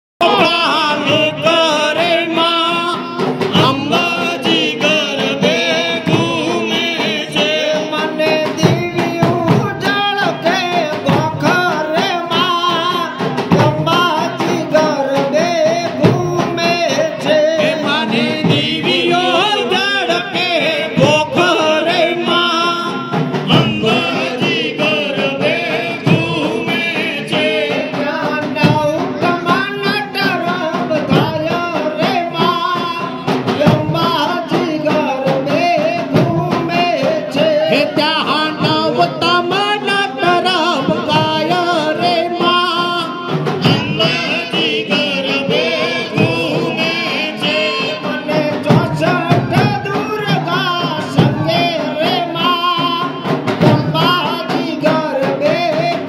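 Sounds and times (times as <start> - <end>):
person singing into a microphone: 0.2 - 56.0
steady drum beat: 0.2 - 56.0.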